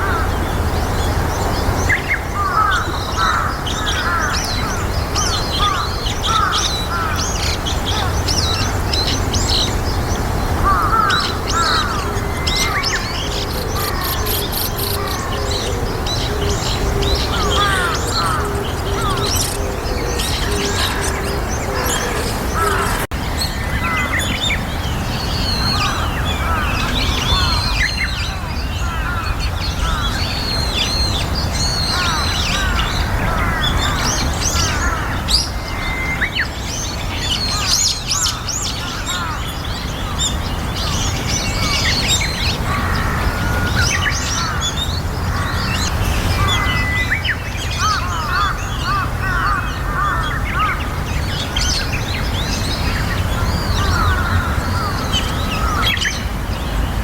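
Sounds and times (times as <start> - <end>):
many birds chirping: 0.0 - 57.0.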